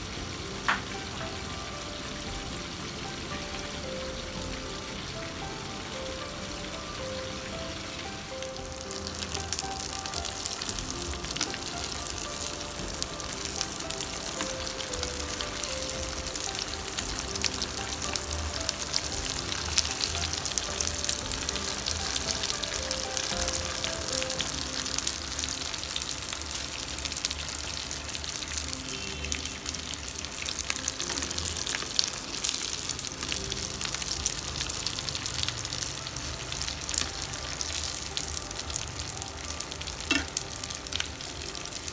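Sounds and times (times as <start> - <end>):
tofu skin deep-frying in oil: 0.0 - 41.9.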